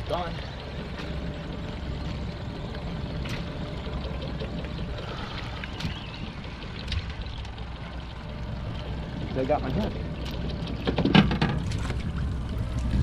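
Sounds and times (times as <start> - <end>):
low rumble: 0.0 - 13.0
water sloshing against boat hull: 0.0 - 13.0.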